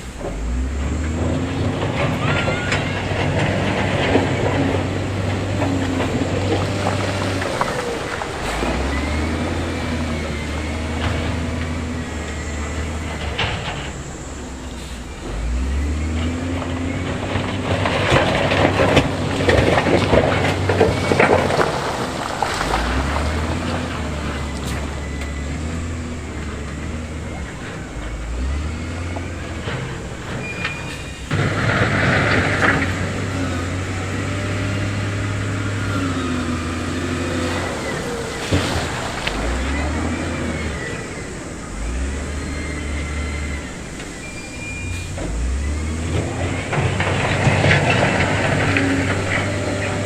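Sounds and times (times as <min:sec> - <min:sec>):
heavy machinery diesel engines: 0:00.0 - 0:50.0.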